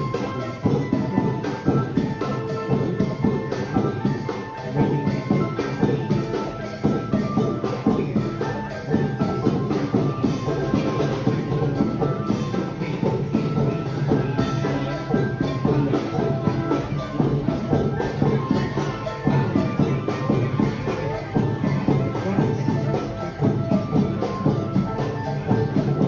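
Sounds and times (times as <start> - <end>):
percussion-led music: 0.0 - 26.0.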